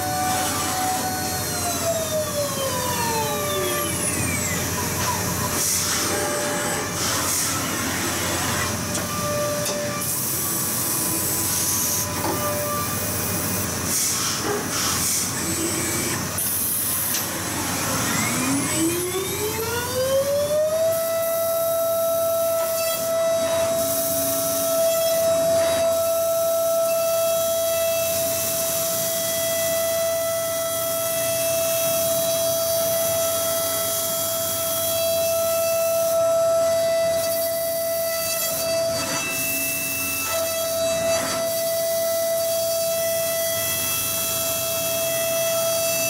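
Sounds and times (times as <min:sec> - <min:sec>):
milling machine spindle whine: 0:00.0 - 0:46.0.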